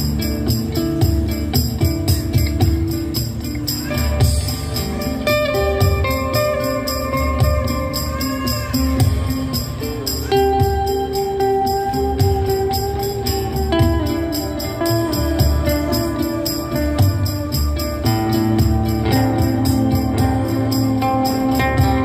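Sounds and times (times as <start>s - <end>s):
acoustic instrumental music: 0.0s - 22.0s.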